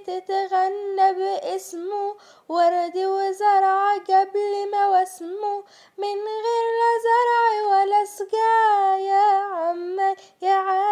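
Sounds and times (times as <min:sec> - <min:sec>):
woman singing unaccompanied: 0:00.0 - 0:10.9.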